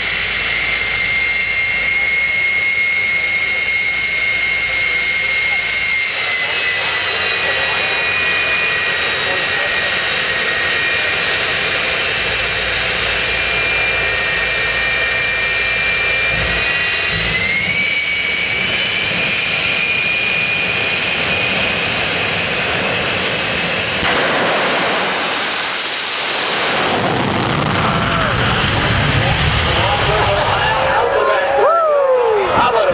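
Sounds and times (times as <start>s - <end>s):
jet engine whining: 0.0s - 32.9s
loud rushing roar: 0.0s - 32.9s.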